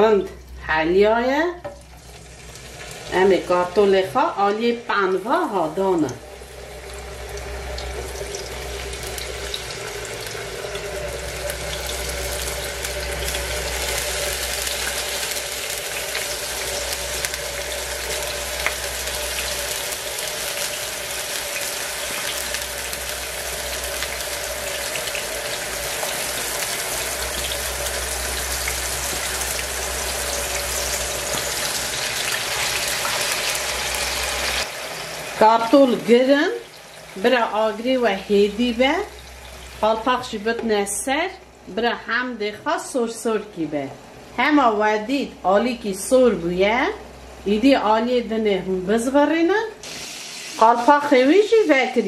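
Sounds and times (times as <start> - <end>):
steady hum: 0.0 - 49.8
oil sizzling in a frying pan: 1.6 - 41.7, 49.8 - 52.0.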